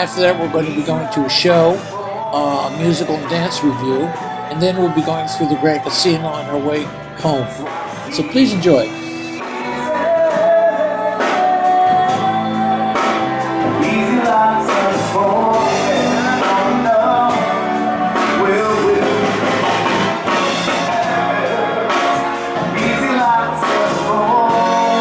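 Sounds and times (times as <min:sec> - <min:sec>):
song with vocal and band: 0:00.0 - 0:25.0.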